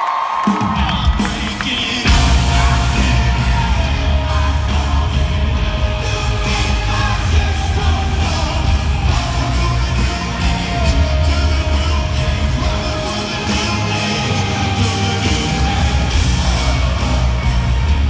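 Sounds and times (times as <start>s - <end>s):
rock band playing live: 0.5s - 18.0s
person singing: 0.6s - 18.0s.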